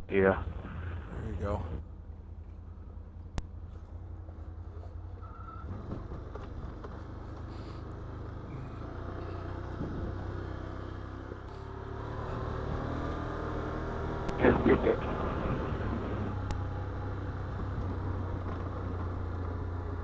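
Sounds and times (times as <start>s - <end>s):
atv engine droning: 0.0s - 20.0s.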